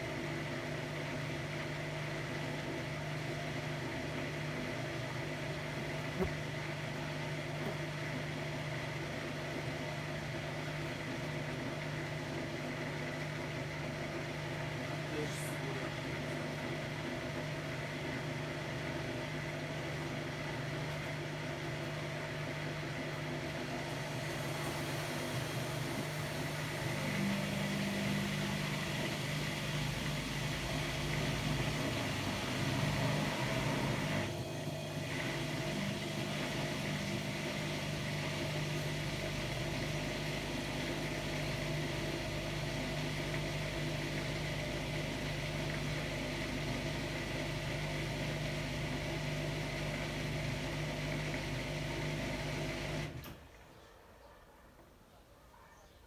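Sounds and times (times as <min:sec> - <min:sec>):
washer-dryer humming: 0:00.0 - 0:53.7.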